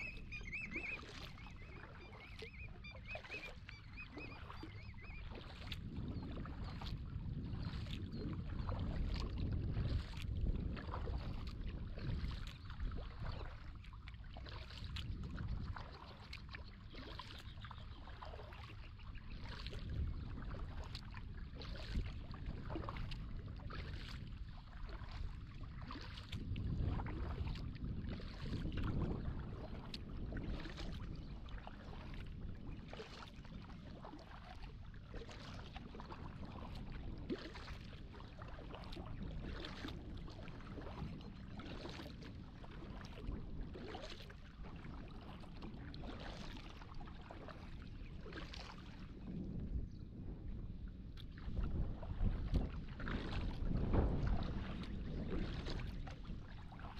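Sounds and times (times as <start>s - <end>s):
paddle splashing in water: 0.0s - 49.9s, 51.0s - 56.9s.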